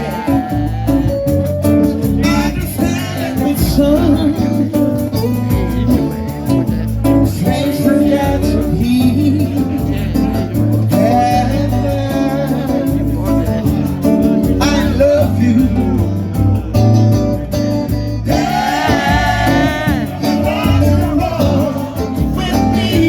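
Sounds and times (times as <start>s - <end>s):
person singing: 0.0s - 16.4s, 18.3s - 23.0s
guitar: 0.0s - 23.0s
live band playing: 0.0s - 23.0s
steady drum beat: 0.0s - 23.0s.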